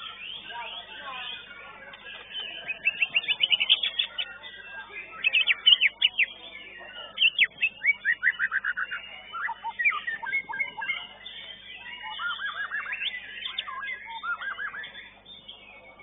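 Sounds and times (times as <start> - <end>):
songbird whistling song: 0.0 - 16.0.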